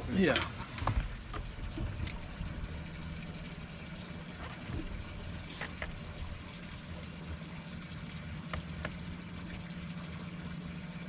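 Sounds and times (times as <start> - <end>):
boat engine humming: 0.0 - 11.0
water lapping: 0.0 - 11.0.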